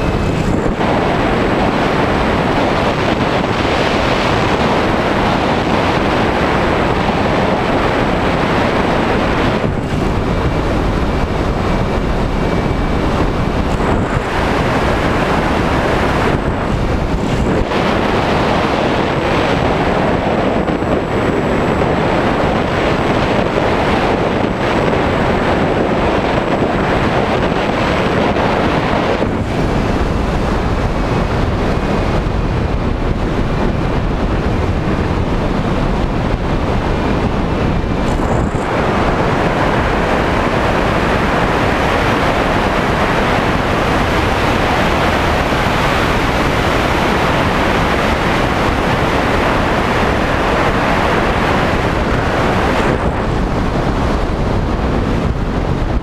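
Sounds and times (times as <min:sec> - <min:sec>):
airflow rush over microphone: 0:00.0 - 0:56.0.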